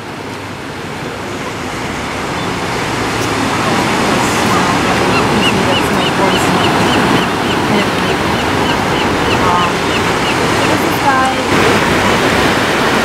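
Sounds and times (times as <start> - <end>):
surf washing onto sand: 0.0 - 13.0.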